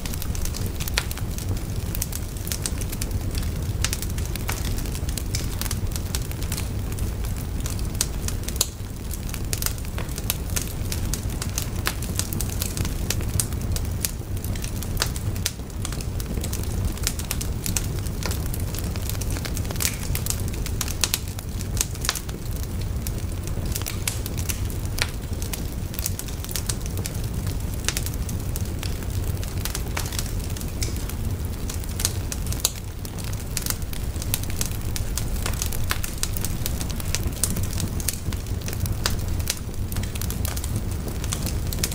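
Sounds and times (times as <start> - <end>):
fire crackling and popping: 0.0 - 41.9
low fire rumble: 0.0 - 41.9.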